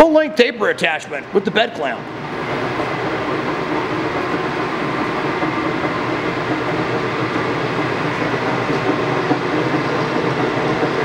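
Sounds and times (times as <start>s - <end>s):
heavy machinery running: 0.0s - 11.0s.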